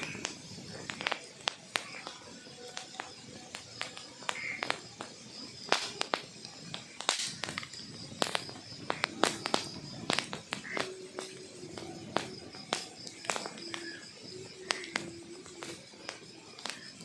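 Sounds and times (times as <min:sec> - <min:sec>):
soft fire rustle: 0:00.0 - 0:17.0
wood fire popping and snapping: 0:00.0 - 0:17.0.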